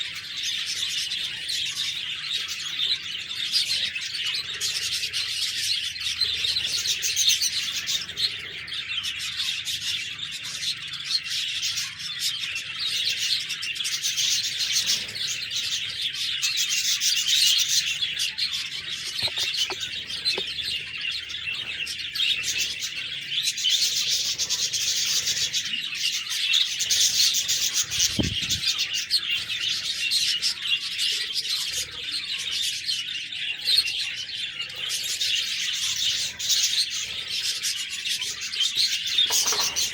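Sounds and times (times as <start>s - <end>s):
budgies chirping and warbling: 0.0s - 39.9s.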